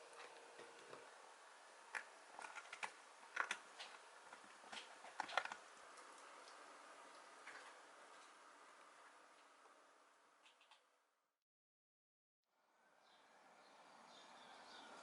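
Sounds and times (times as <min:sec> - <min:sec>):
faint steady background noise: 0:00.0 - 0:11.2, 0:12.5 - 0:15.0.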